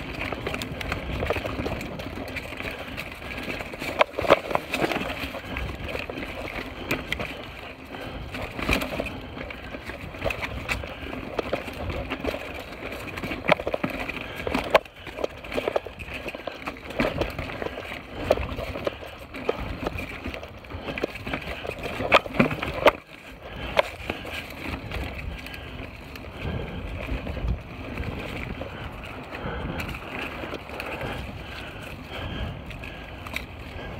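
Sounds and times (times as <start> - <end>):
bike tyres rumbling on dirt trail: 0.0 - 33.9.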